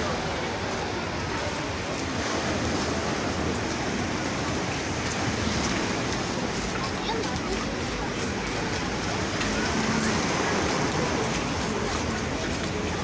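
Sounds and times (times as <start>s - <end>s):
sea surf breaking: 0.0s - 13.0s.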